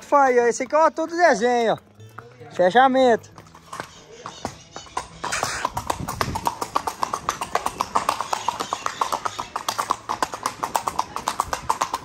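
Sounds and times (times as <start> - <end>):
horse hooves on cobblestones: 0.0 - 12.0.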